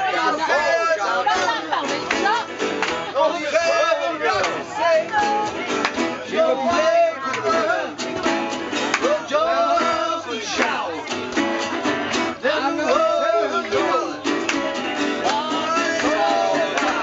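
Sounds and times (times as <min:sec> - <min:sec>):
men singing folk song: 0:00.0 - 0:11.2, 0:11.9 - 0:17.0
acoustic guitars strummed: 0:00.0 - 0:17.0.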